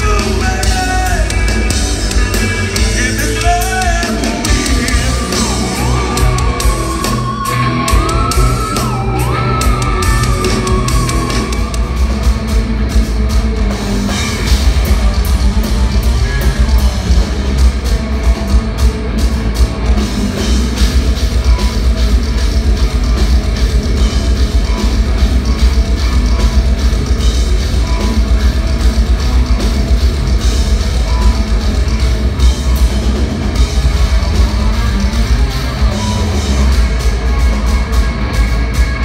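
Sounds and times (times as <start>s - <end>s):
metal band playing: 0.0s - 39.0s.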